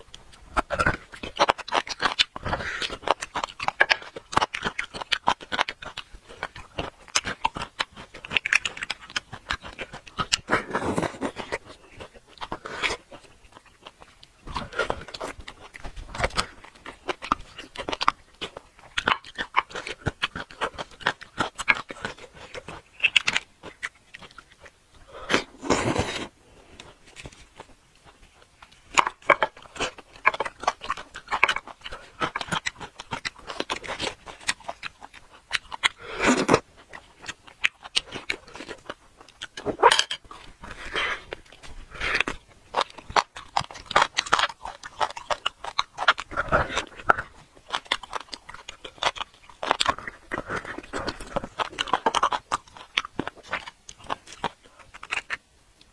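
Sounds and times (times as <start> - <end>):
sucking at a bone: 0.0 - 55.9
wet chewing and lip smacks: 0.0 - 55.9.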